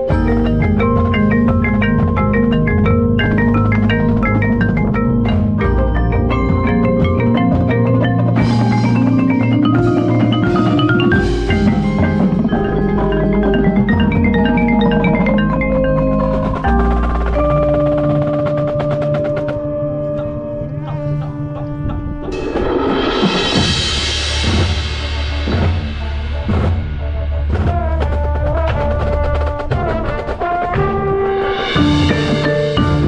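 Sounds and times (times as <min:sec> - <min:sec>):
mallet percussion notes: 0:00.0 - 0:33.0.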